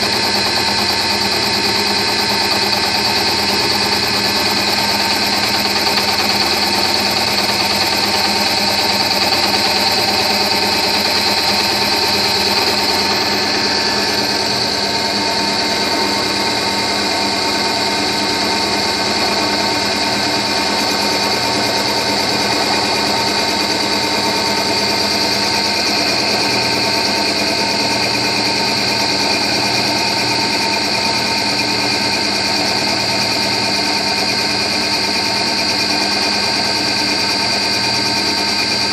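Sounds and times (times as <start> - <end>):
high steady whine: 0.0 - 38.9
lathe whirring: 0.0 - 38.9.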